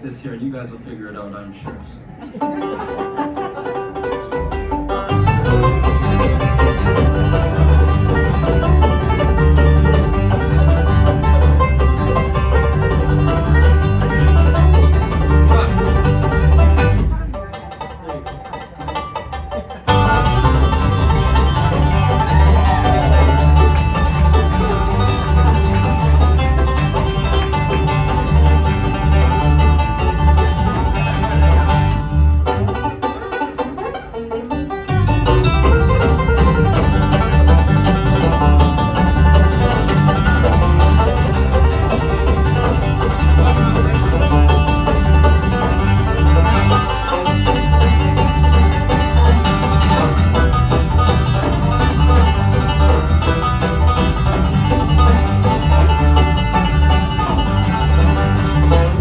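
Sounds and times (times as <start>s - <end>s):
banjos picking: 0.0s - 59.0s
upright bass: 0.0s - 59.0s
acoustic guitar: 1.6s - 59.0s.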